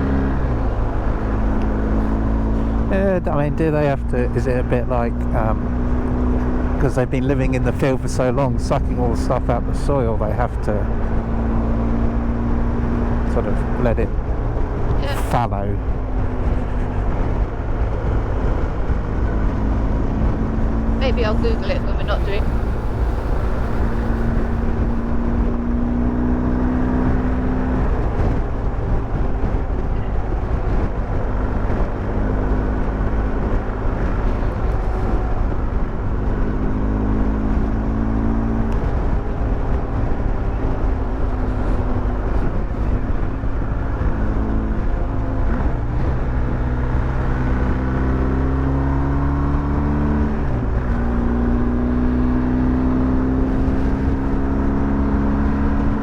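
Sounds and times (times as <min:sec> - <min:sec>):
motorcycle engine revving: 0:00.0 - 0:56.0
road noise: 0:00.0 - 0:56.0
wind noise: 0:10.8 - 0:56.0.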